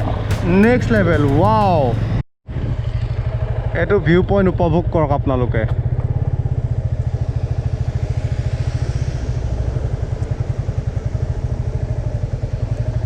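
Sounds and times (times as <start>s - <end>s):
motorcycle engine running slowly: 0.0s - 13.0s.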